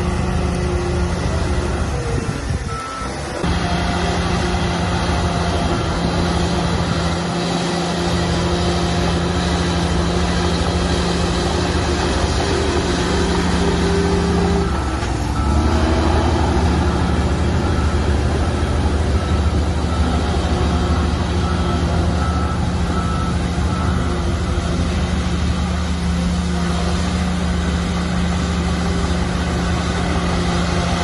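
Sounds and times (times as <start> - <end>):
heavy diesel machinery droning: 0.0 - 31.0.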